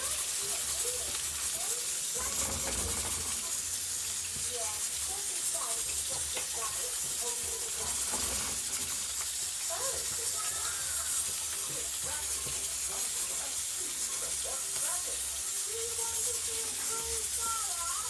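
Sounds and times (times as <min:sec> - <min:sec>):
faint voices: 0:00.0 - 0:18.0
oil sizzling in a pot: 0:00.0 - 0:18.0.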